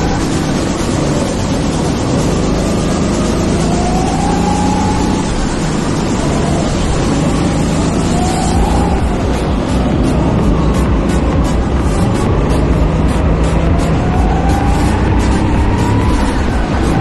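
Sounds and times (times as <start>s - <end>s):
go-kart engine accelerating: 0.0s - 17.0s
wind and track noise: 0.0s - 17.0s.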